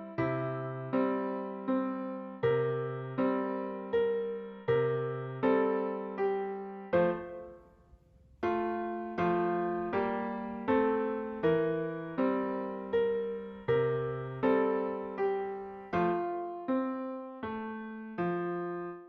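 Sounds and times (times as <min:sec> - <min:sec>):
electric piano chords: 0:00.0 - 0:19.0.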